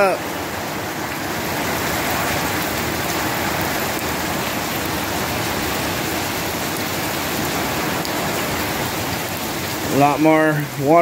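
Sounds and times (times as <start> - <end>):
steady rain: 0.0 - 11.0
wind: 0.0 - 11.0.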